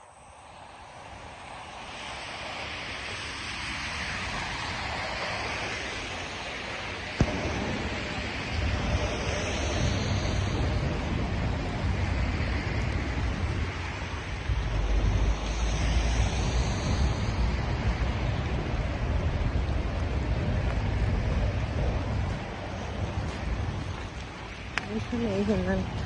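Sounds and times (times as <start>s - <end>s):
rain: 0.0s - 26.0s
wind buffeting microphone: 0.4s - 26.0s.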